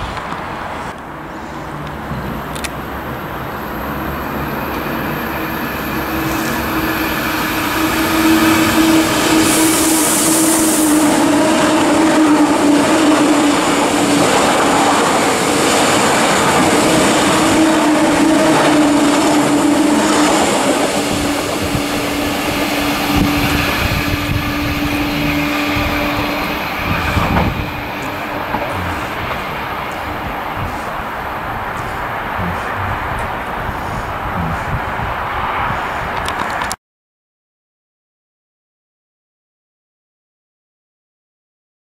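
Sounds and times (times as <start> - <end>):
electric train passing: 0.0 - 36.7.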